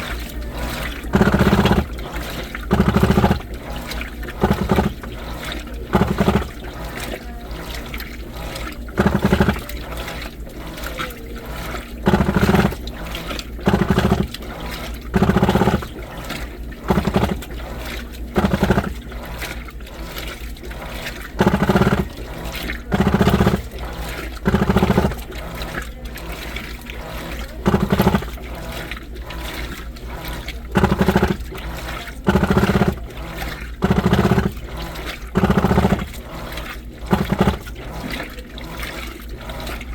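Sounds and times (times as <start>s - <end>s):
washing machine drum burst with hum: 0.0s - 39.9s
water sloshing in washing machine: 0.0s - 39.9s.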